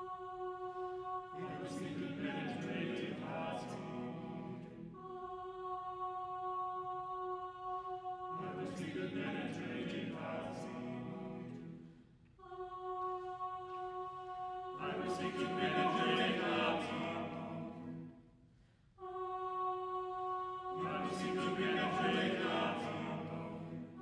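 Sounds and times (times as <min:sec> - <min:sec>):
a cappella choir singing: 0:00.0 - 0:24.0.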